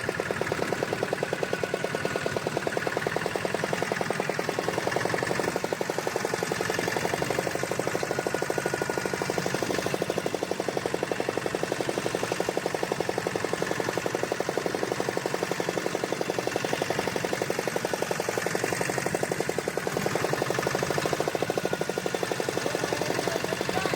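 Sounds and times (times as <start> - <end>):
boat engine knocking: 0.0 - 23.9.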